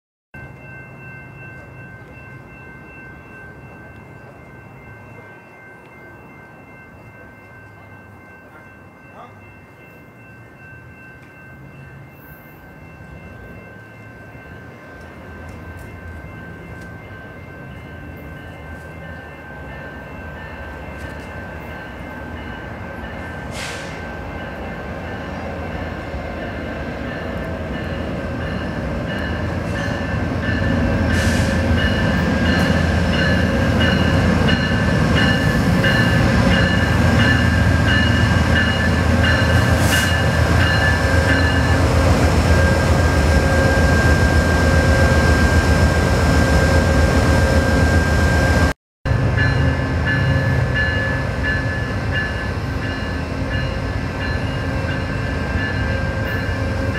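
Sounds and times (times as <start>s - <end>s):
diesel locomotive engine: 0.4s - 56.9s
train rumble: 0.4s - 56.9s.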